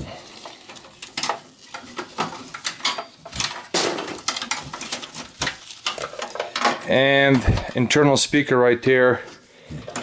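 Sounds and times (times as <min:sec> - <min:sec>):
rustling of cables: 0:00.0 - 0:08.2, 0:09.0 - 0:10.0.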